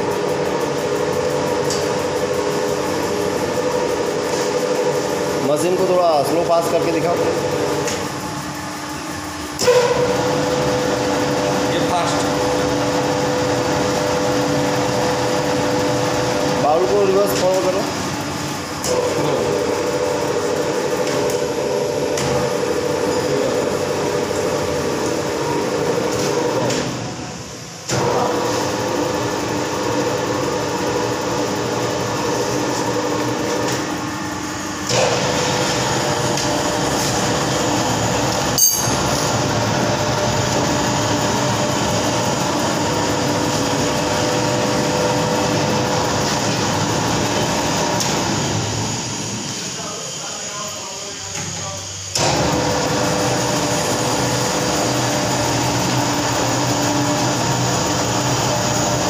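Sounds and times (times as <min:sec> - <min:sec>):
dough mixer motor humming: 0:00.0 - 0:27.2, 0:28.0 - 0:49.8, 0:52.1 - 0:59.0.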